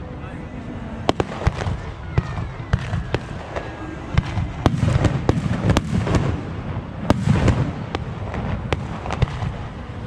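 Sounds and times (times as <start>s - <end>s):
fireworks crackling: 0.0s - 10.0s
fireworks bangs: 1.0s - 10.0s.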